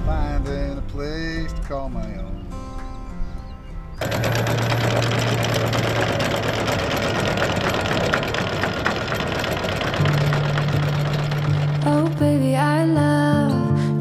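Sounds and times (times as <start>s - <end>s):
engine running with clatter: 0.0s - 13.3s.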